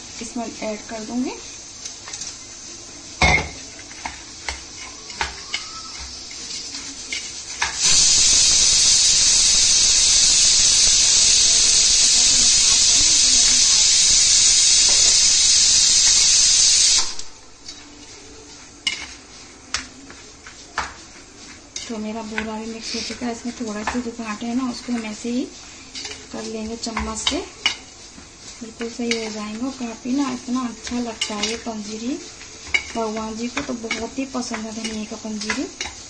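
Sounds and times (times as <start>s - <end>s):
loud steady hiss: 0.0s - 17.5s, 21.6s - 36.0s.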